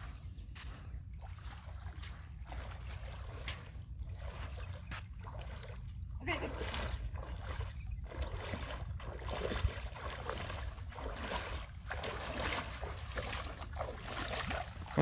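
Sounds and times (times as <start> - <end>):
water sloshing around wading legs: 0.0 - 15.0
wind rumble on microphone: 0.0 - 15.0.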